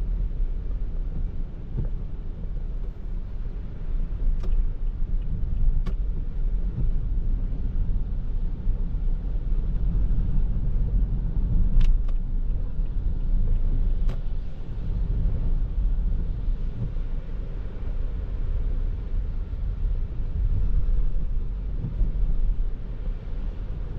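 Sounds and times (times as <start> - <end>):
road and tyre noise: 0.0 - 23.9.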